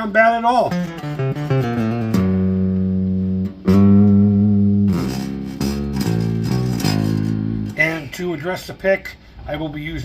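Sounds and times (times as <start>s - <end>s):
electric bass guitar notes: 0.0s - 8.4s.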